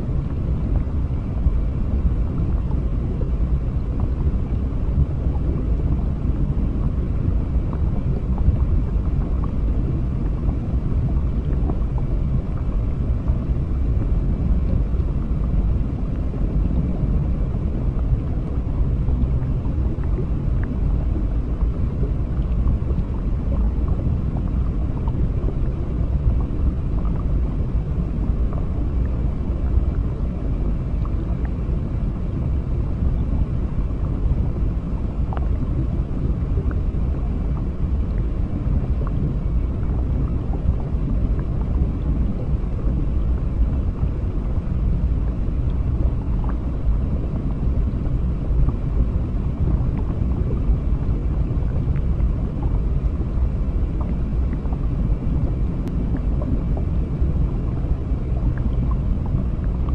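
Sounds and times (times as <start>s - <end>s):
deep underwater rumble: 0.0s - 59.9s.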